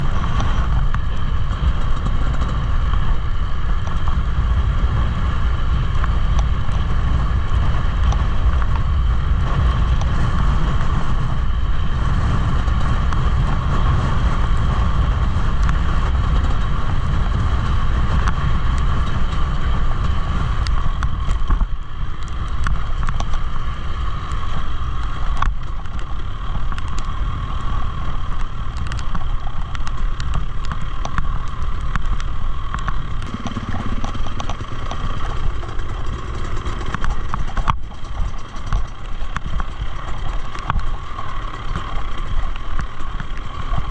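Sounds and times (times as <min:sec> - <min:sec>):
dirt bike engine running: 0:00.0 - 0:43.9
wind rumble on microphone: 0:00.0 - 0:43.9.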